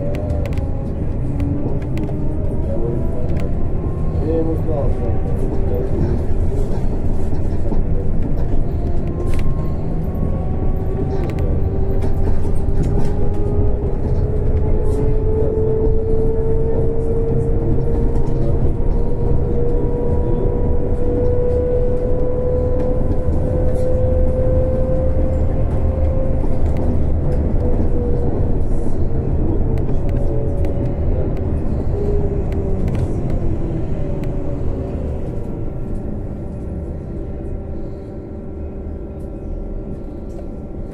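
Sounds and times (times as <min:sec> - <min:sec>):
road rumble: 0:00.0 - 0:40.9.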